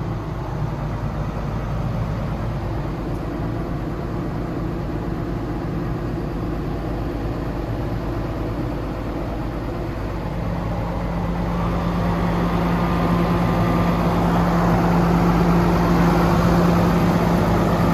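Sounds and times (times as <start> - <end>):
diesel truck engine running: 0.0 - 17.9.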